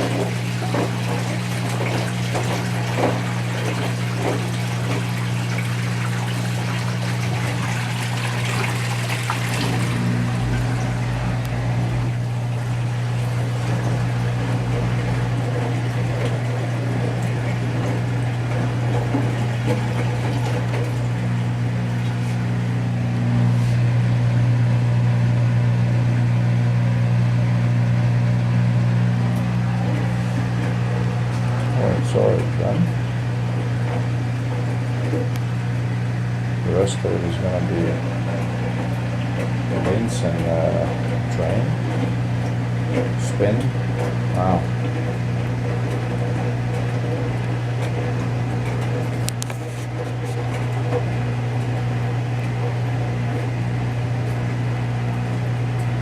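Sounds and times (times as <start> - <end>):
water splashing into drum: 0.0 - 23.6, 29.2 - 56.0
washing machine hum: 0.0 - 56.0.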